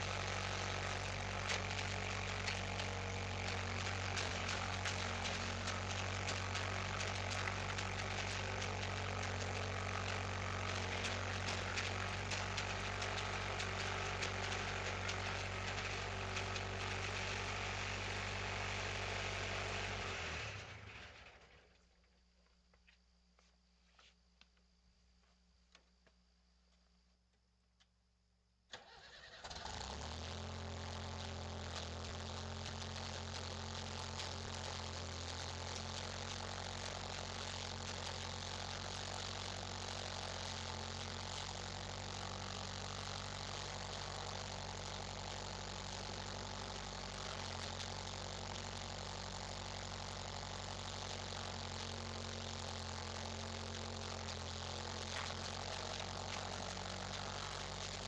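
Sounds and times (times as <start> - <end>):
skid steer engine starting and running: 0.0 - 21.8, 28.7 - 58.0.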